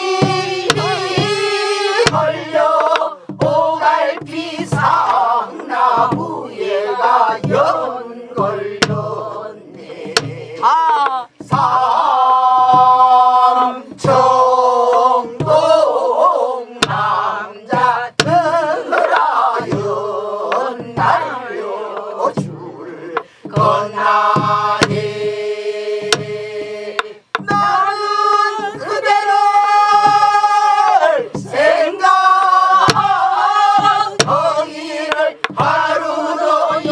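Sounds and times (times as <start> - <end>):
group singing folk song: 0.0 - 36.9
barrel drum thumps and clicks: 0.2 - 1.4, 2.0 - 6.6, 7.3 - 11.9, 12.5 - 13.2, 16.8 - 25.2, 26.0 - 29.1, 29.9 - 36.9.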